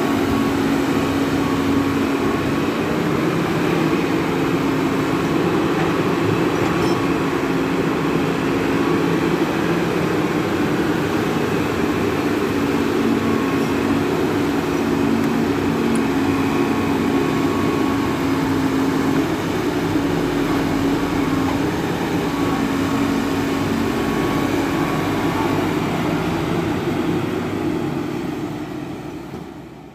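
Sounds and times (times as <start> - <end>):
excavator diesel engine droning: 0.0 - 29.9.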